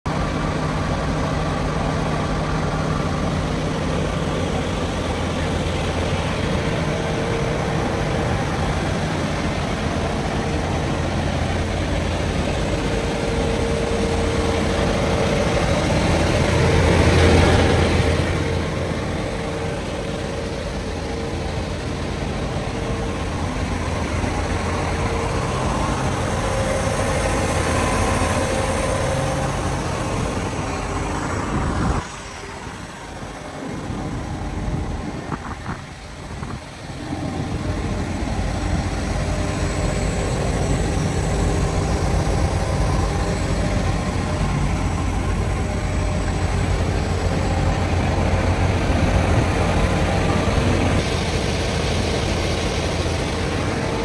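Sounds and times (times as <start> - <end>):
tractor diesel engine idling: 0.1 - 54.0.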